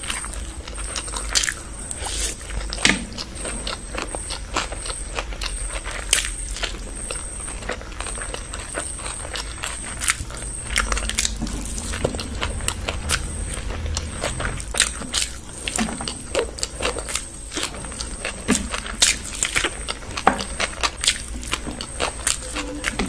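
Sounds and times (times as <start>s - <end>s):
low steady hum: 0.0s - 23.0s
person chewing and slurping: 0.0s - 23.0s.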